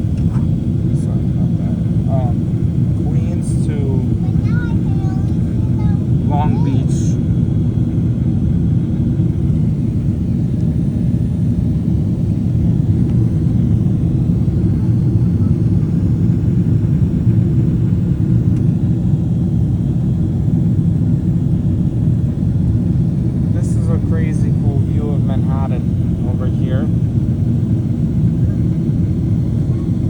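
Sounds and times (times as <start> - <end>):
jet engine cabin drone: 0.0 - 30.0.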